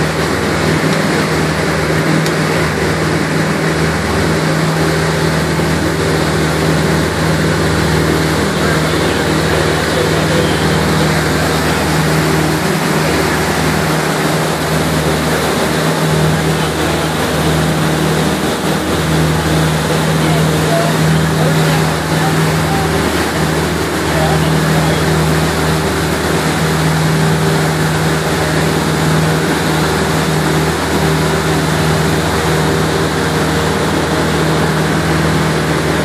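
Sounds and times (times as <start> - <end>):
churning wake rushing: 0.0 - 36.0
motorboat engine humming: 0.0 - 36.0
wind: 0.0 - 36.0.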